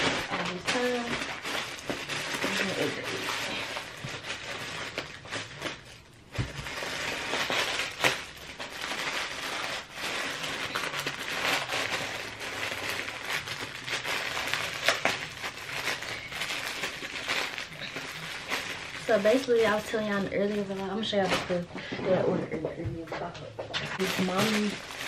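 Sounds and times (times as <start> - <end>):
plastic bag crinkling: 0.0 - 21.7, 23.8 - 25.0.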